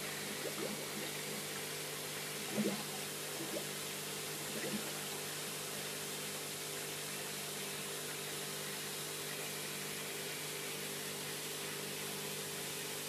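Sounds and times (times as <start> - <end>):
pond pump humming: 0.0 - 13.0.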